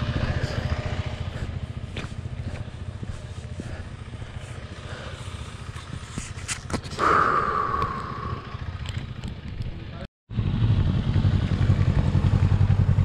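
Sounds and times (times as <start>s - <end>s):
motorcycle engine idling: 0.0s - 6.4s, 7.0s - 13.0s.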